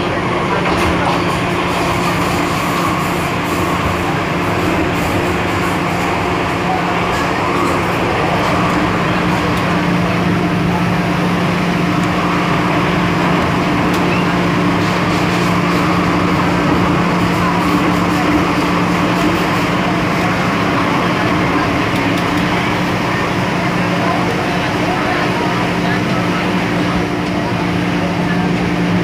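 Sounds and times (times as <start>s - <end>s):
train traction hum: 0.0s - 29.0s
train wheels rumbling on track: 0.0s - 29.0s.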